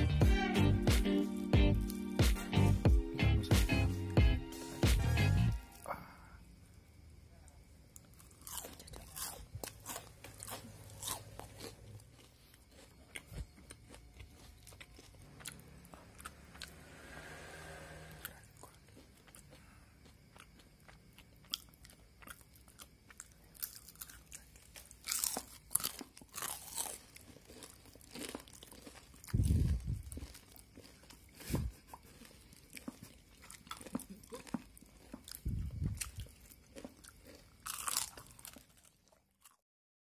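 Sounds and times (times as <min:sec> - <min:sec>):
crunchy chewing: 0:07.5 - 0:39.6.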